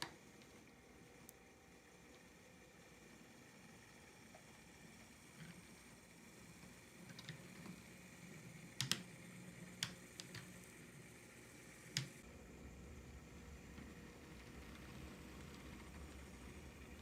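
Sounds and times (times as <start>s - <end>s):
model train hum: 0.0s - 17.0s.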